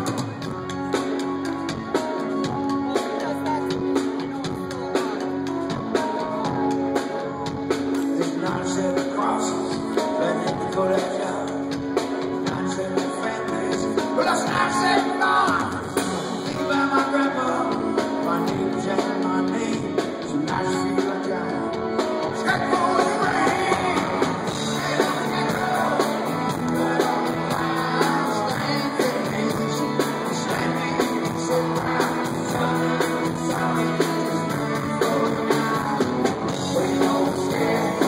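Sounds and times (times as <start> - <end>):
drums: 0.0 - 38.0
electric guitars: 0.0 - 38.0
man singing lead: 0.0 - 38.0.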